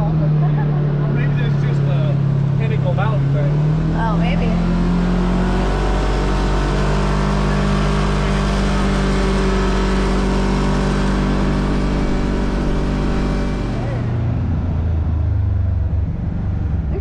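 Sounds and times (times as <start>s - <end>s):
utv engine running: 0.0s - 17.0s.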